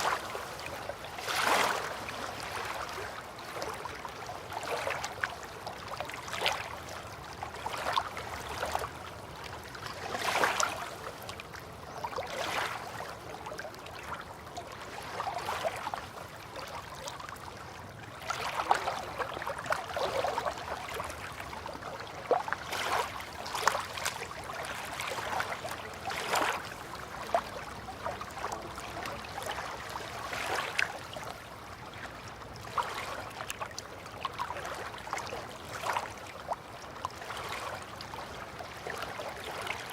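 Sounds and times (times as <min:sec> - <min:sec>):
river water lapping and gurgling: 0:00.0 - 0:39.9
small water splashes: 0:00.0 - 0:39.9.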